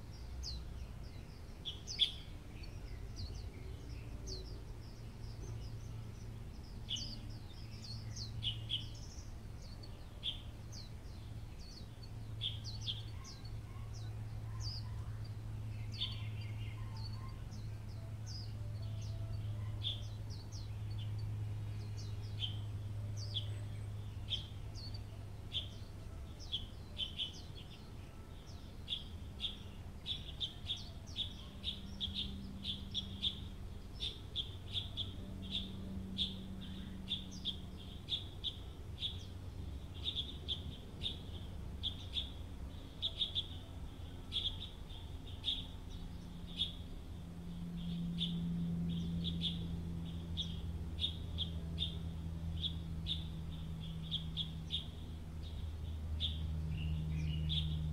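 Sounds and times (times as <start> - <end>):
small birds chirping: 0.0 - 57.9
steady low hum: 0.0 - 57.9.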